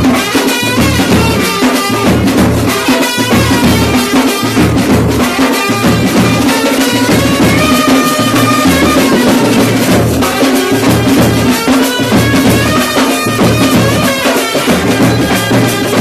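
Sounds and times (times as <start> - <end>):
drum band playing: 0.0 - 16.0.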